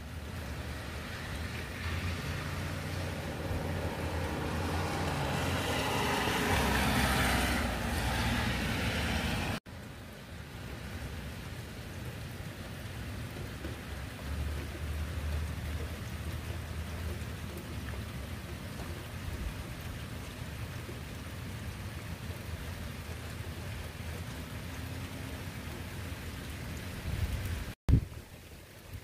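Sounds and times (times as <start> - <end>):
rain falling on pavement: 0.0 - 29.0.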